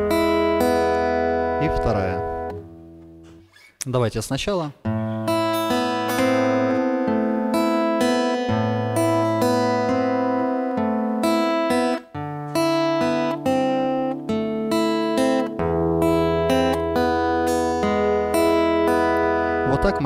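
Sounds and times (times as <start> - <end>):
fingerpicked acoustic guitar: 0.0 - 3.7, 4.8 - 20.0.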